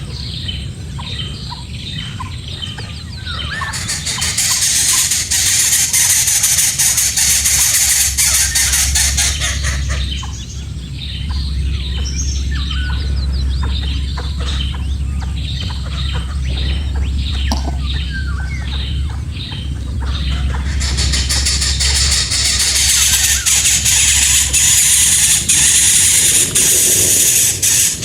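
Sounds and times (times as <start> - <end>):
bird chirping: 0.0 - 28.0
steady low hum: 0.0 - 28.0.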